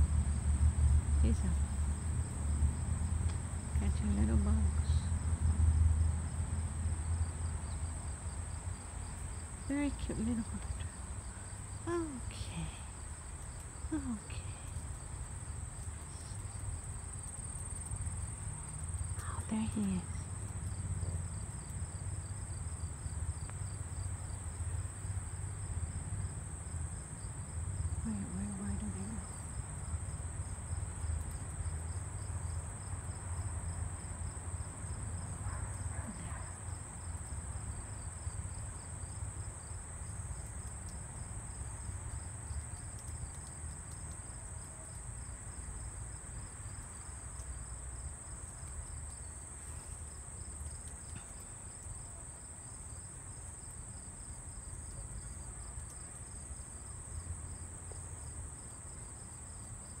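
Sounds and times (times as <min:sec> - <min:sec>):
insect chorus drone: 0:00.0 - 1:00.0.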